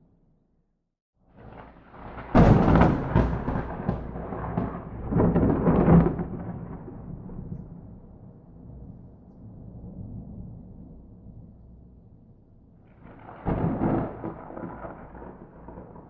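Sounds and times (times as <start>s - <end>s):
thunder rumbling and cracking: 1.4s - 12.0s, 12.9s - 16.0s.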